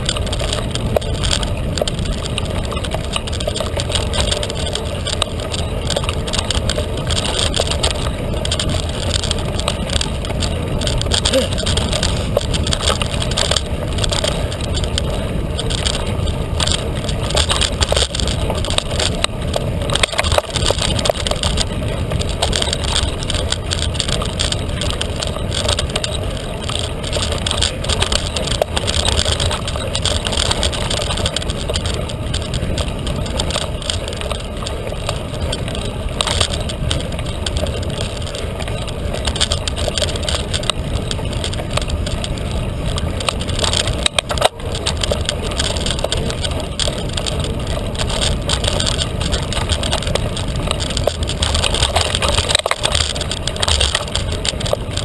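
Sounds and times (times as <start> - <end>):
bike rattling clicks and knocks: 0.0 - 55.0.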